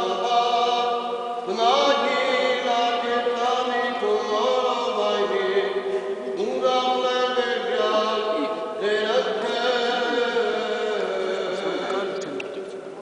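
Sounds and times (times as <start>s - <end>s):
liturgical chanting: 0.0s - 13.0s.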